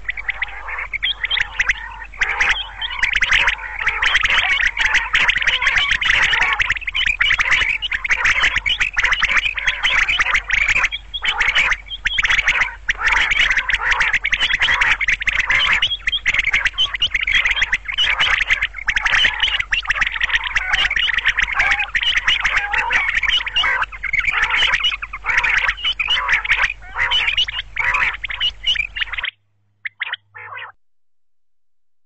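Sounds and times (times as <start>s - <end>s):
quail calling: 0.0s - 30.8s.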